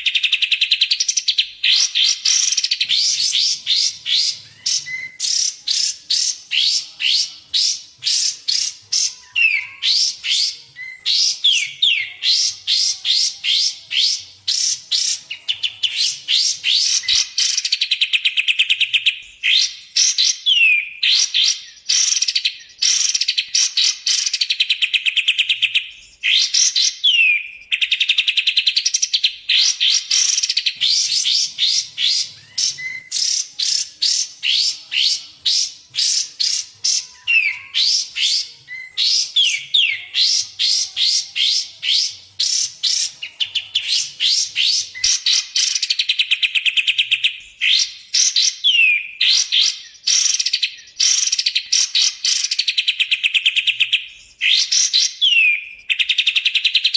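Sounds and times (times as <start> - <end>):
songbird chattering trills: 0.0 - 56.9.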